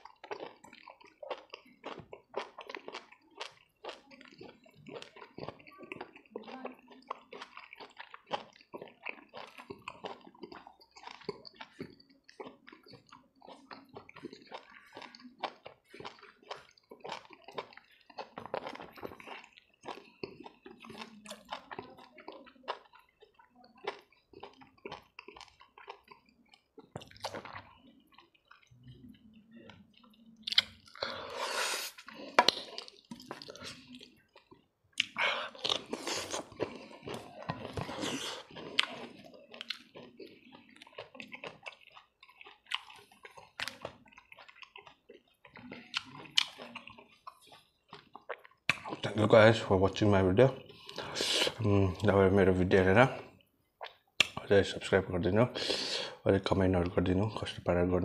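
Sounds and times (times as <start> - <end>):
lip smacking: 0.0 - 49.2, 53.2 - 54.5
chewing: 0.0 - 57.8.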